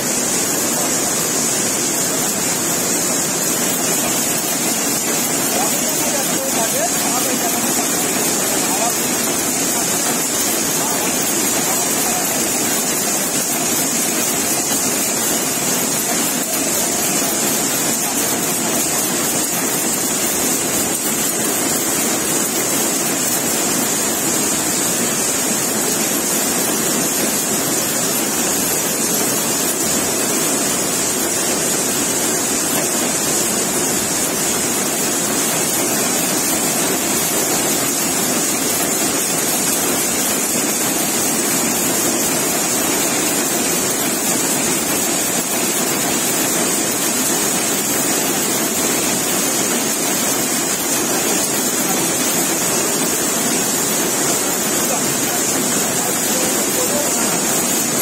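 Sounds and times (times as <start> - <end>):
looms running: 0.0 - 58.0.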